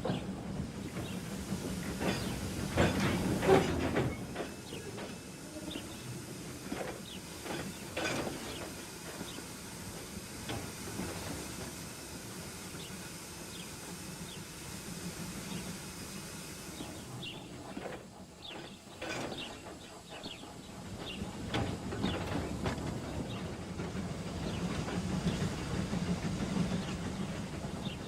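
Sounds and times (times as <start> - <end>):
steam hissing: 0.0 - 28.0.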